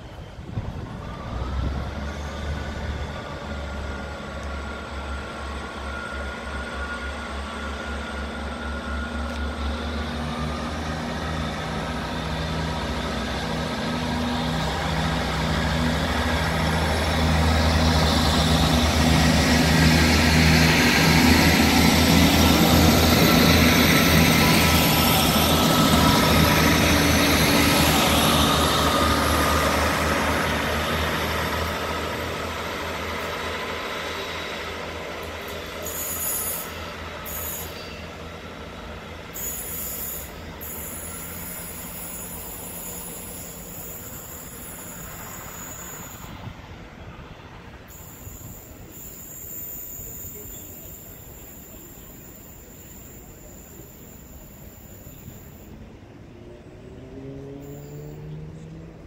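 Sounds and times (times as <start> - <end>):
diesel train engines running: 0.0 - 59.0
wheel and rail noise: 0.0 - 59.0.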